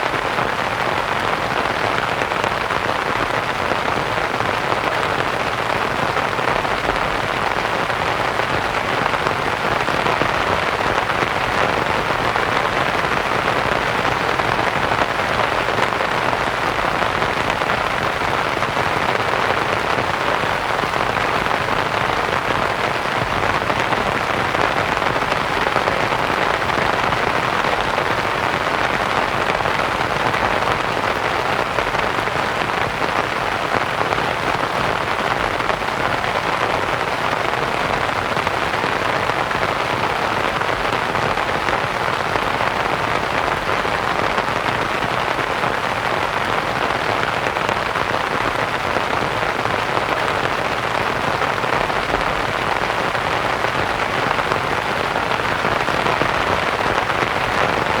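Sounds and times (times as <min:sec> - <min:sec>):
rain on a canvas tent: 0:00.0 - 0:58.0.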